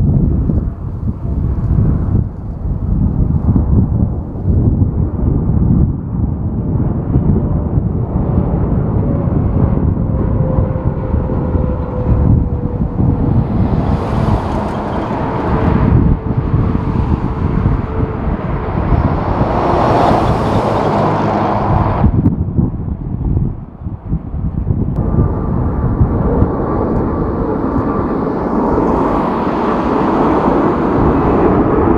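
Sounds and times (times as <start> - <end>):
faint engine whine: 0.0 - 22.3, 23.2 - 31.9
jet engines roaring: 0.0 - 31.9
wind buffeting microphone: 0.0 - 31.9.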